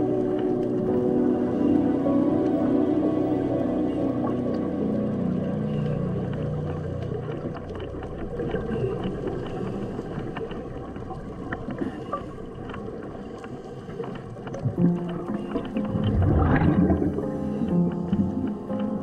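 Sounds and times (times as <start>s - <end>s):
low sustained musical tones: 0.0s - 19.0s
underwater crackles and clicks: 0.0s - 19.0s
underwater rumble and hiss: 0.0s - 19.0s.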